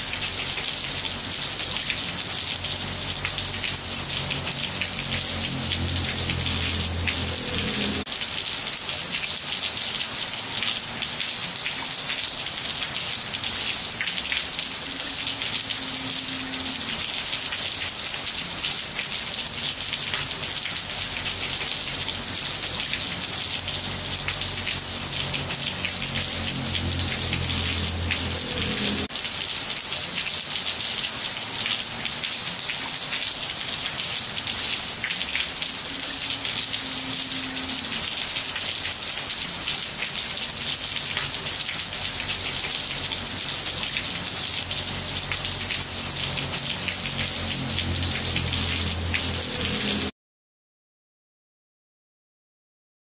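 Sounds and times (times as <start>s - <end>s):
rain on tiled floor: 0.0s - 50.2s.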